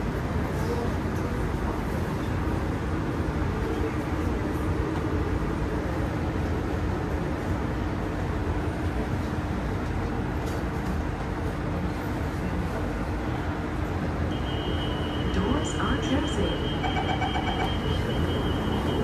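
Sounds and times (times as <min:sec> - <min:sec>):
train carriage rumble and hum: 0:00.0 - 0:19.0.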